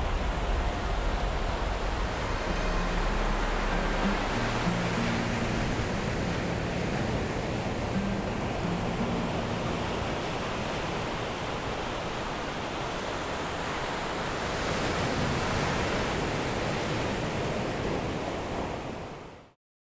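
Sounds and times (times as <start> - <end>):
ocean waves washing: 0.0 - 19.4.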